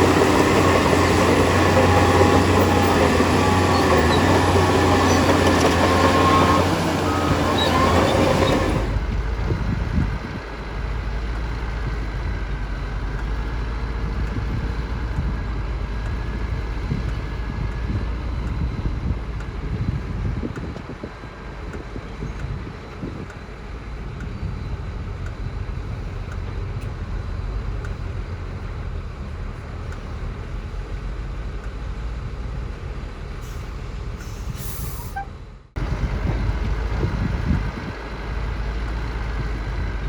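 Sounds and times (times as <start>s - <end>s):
heavy diesel engine under load: 0.0s - 40.0s.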